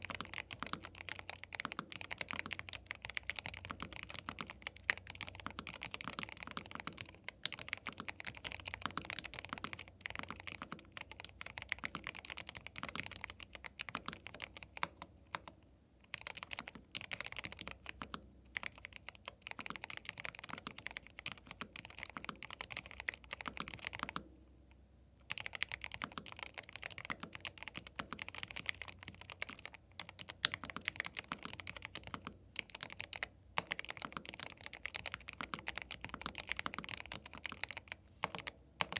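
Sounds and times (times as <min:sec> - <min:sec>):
mechanical keyboard typing: 0:00.0 - 0:15.5, 0:16.1 - 0:24.3, 0:25.2 - 0:38.9.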